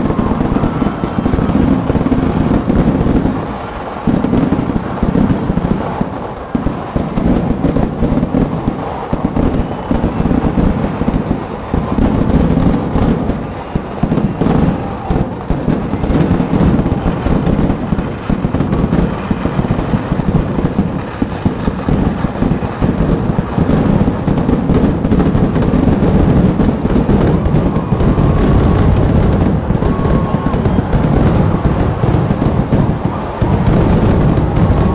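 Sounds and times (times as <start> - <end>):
fireworks barrage rumbling and crackling: 0.0 - 34.9.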